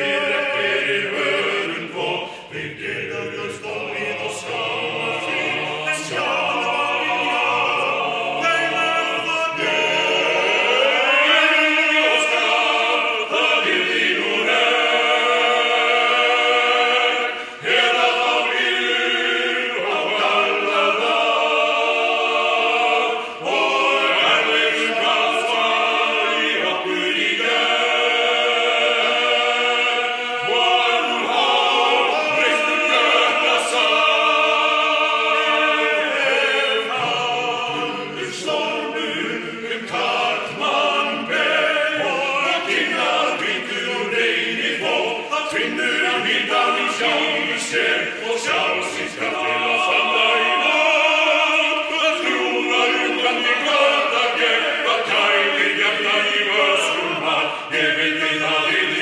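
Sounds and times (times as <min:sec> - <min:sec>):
male choir singing a cappella: 0:00.0 - 0:59.0.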